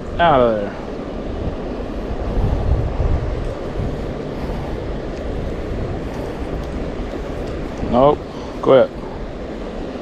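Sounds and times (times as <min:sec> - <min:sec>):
stream water flowing: 0:00.0 - 0:10.0
wind rumbling on microphone: 0:00.0 - 0:10.0.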